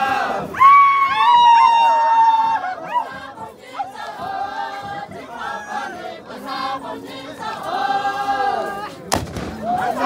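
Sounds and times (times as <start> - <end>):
group chanting in unison: 0.0 - 0.6, 2.5 - 10.0.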